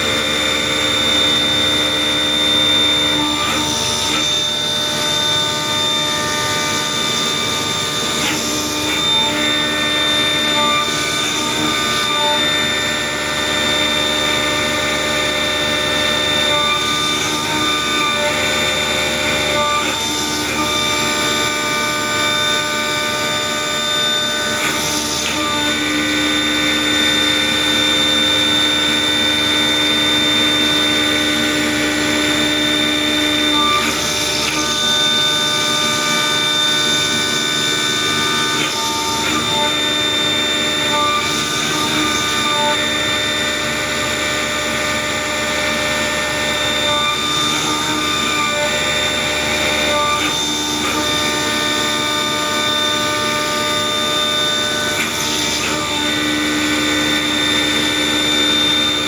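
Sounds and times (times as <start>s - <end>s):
machine motors whining: 0.0s - 59.0s.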